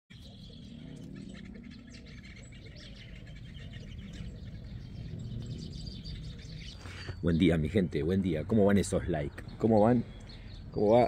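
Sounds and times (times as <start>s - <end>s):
steady low hum: 0.1s - 10.8s
birds chirping: 0.1s - 11.0s.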